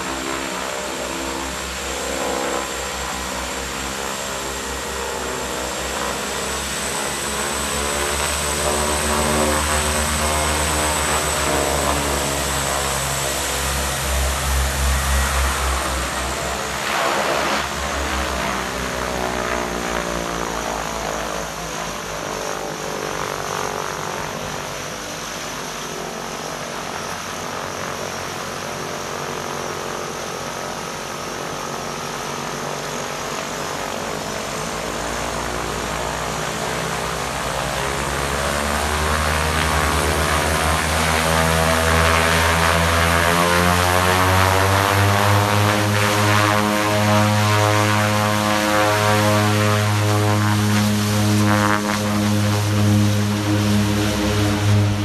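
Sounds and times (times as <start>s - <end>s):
turboprop engines and propellers: 0.0s - 55.0s.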